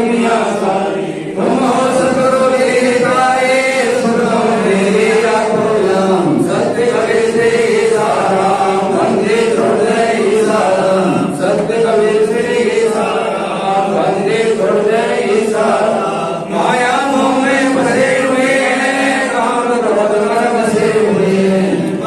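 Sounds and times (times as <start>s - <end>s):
group chanting: 0.0s - 22.0s.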